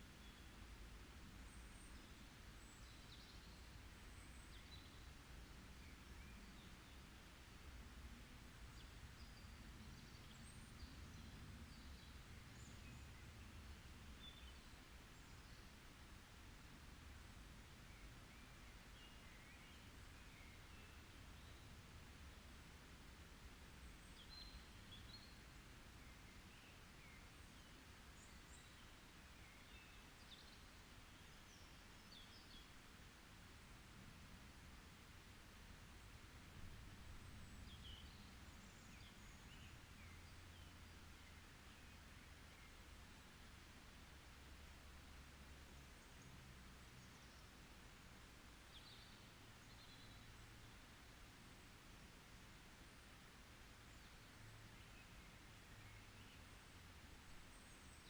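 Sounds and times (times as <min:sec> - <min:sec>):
low background hiss: 0:00.0 - 0:58.0
low steady background noise: 0:00.0 - 0:58.0.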